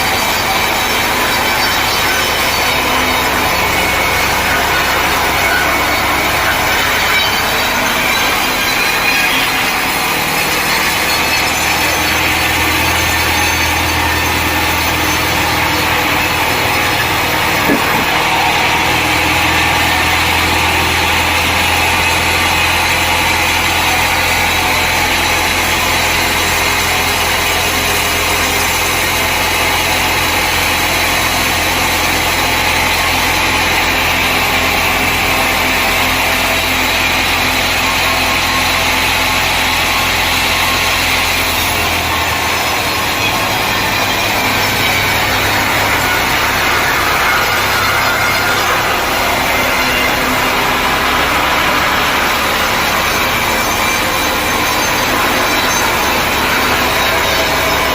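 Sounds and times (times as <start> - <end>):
engine hum: 0.0 - 25.0, 31.7 - 57.9
saw running: 0.0 - 57.9.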